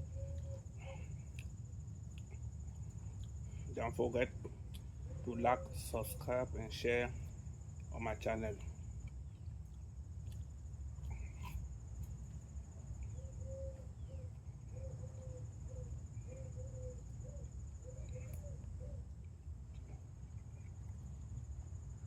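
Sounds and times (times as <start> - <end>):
insects trilling: 0.0 - 22.0
low outdoor rumble: 0.0 - 22.0.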